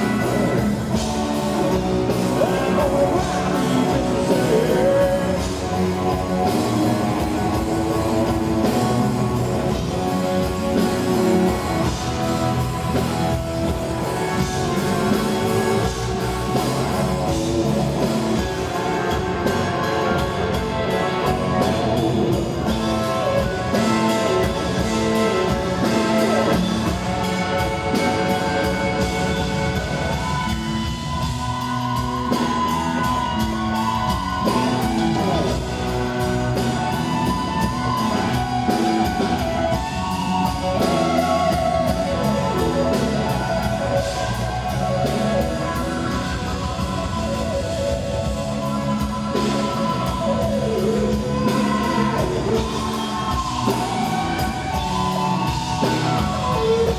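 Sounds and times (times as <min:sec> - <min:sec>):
drum kit and percussion: 0:00.0 - 0:56.9
electric guitar lead: 0:00.0 - 0:56.9.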